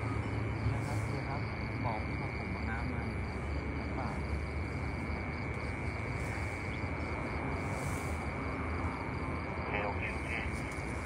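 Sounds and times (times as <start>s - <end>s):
low steady rumble: 0.0s - 11.0s
night insects chirping: 0.0s - 11.0s.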